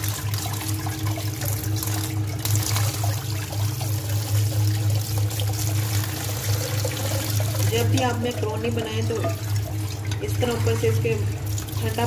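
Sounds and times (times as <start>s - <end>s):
steady low hum: 0.0s - 12.0s
water pouring into colander: 0.0s - 12.0s.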